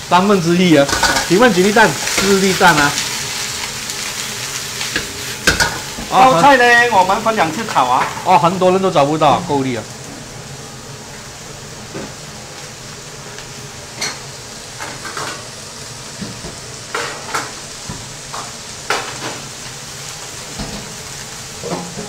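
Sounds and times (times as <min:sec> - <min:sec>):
cabbage sizzling in a wok: 0:00.0 - 0:22.0.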